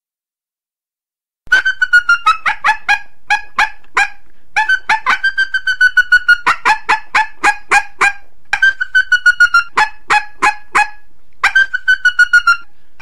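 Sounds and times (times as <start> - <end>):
coyote chirping: 1.5 - 12.7.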